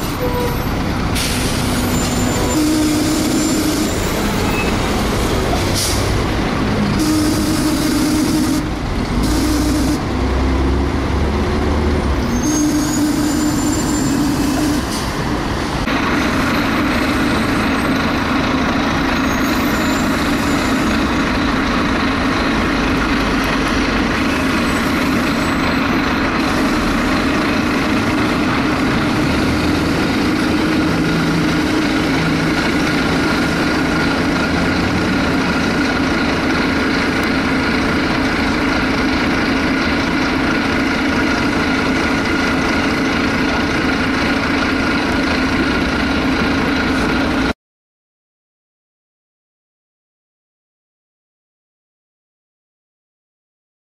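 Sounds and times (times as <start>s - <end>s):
bus diesel engine running: 0.0s - 47.6s.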